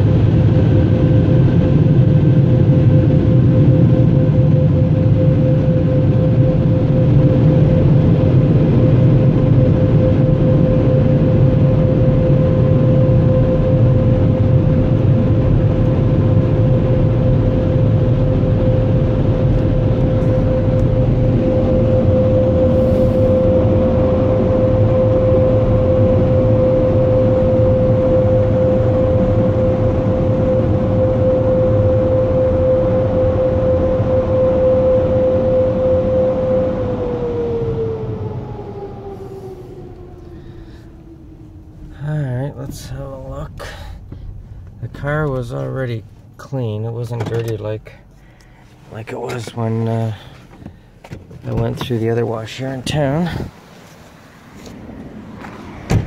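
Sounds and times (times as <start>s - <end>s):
air dryer blowers running: 0.0s - 56.0s
whining fan tone: 0.0s - 56.0s.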